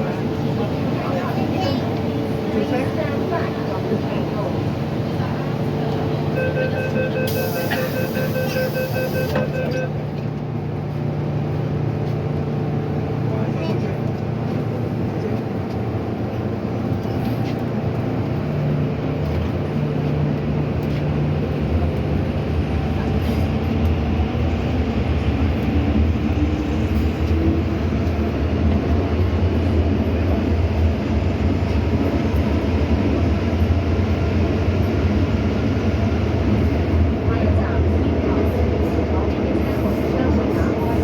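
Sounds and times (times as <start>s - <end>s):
train rumbling in tunnel: 0.0s - 41.0s.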